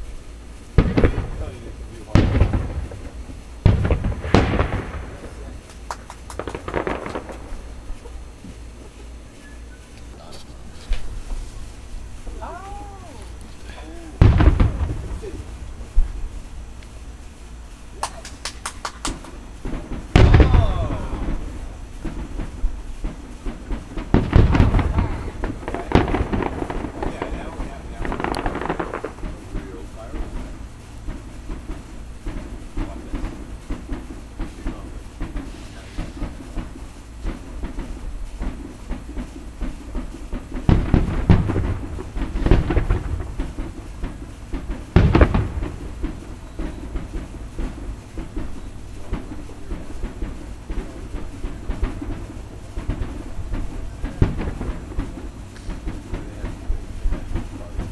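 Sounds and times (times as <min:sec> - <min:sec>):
firework booms rumbling: 0:00.0 - 0:57.9
firework pops: 0:00.7 - 0:57.9.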